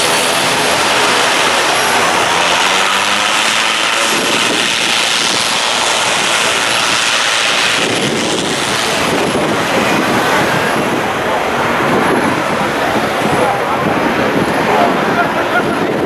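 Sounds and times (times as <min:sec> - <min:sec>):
turboprop engines roaring: 0:00.0 - 0:16.0
wind buffeting microphone: 0:00.0 - 0:16.0.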